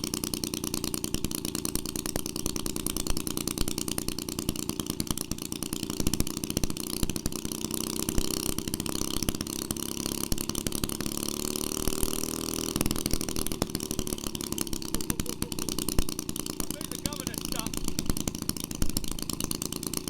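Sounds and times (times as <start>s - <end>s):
two-stroke engine running: 0.0s - 20.0s.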